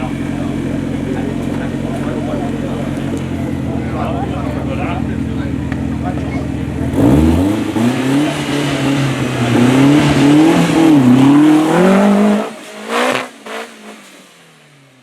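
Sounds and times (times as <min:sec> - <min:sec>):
truck engine revving hard: 0:00.0 - 0:14.4.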